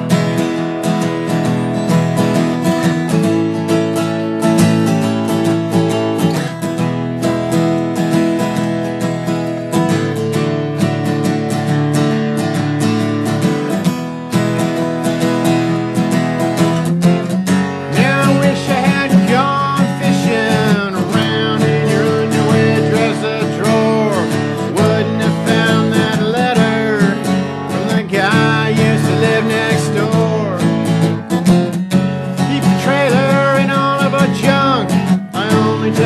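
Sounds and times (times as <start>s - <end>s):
acoustic guitar strumming: 0.0s - 36.0s
country band playing: 0.0s - 36.0s.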